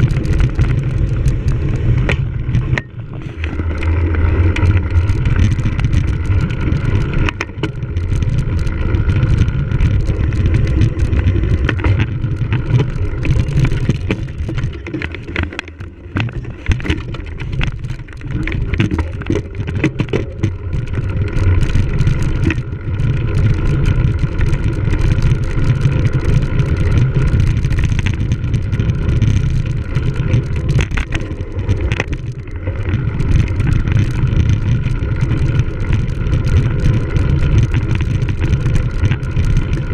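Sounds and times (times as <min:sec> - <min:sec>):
bike rattling on rough ground: 0:00.0 - 0:39.9
wind on microphone: 0:00.0 - 0:39.9.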